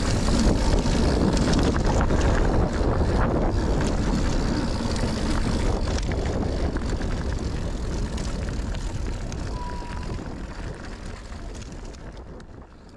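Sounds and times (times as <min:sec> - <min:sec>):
bike clicks and rattles: 0:00.0 - 0:12.9
wind buffeting microphone: 0:00.0 - 0:12.9.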